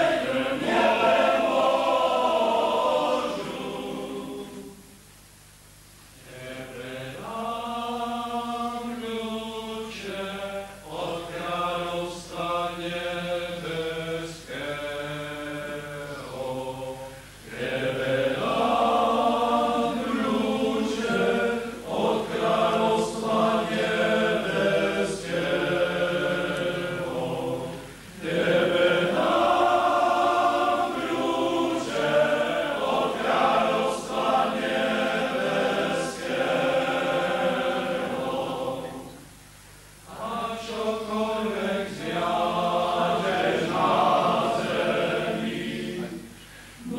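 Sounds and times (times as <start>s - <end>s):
men singing a hymn in chorus: 0.0s - 4.7s, 6.3s - 39.2s, 40.1s - 46.2s.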